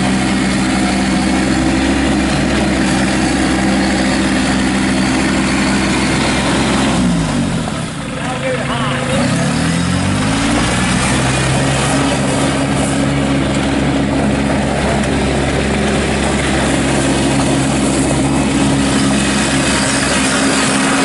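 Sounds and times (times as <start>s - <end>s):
tractor diesel engine speeding up: 0.0s - 21.0s.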